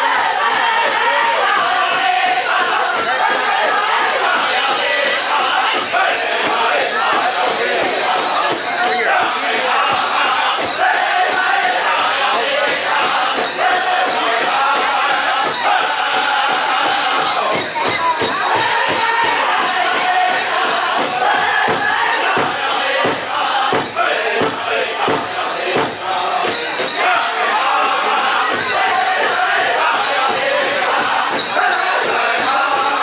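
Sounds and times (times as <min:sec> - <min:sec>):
big drum beat: 0:00.0 - 0:33.0
jingling bells: 0:00.0 - 0:33.0
men singing together: 0:00.0 - 0:33.0.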